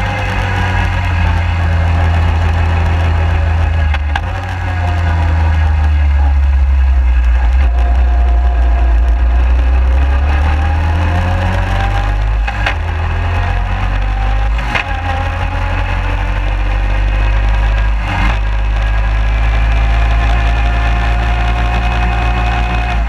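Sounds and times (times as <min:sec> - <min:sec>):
heavy low rumble: 0:00.0 - 0:23.0
quad bike engine running: 0:00.0 - 0:23.0.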